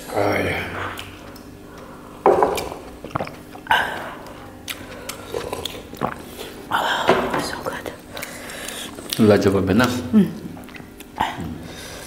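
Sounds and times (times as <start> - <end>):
chewing and mouth noises: 0.8 - 6.9, 7.5 - 11.6.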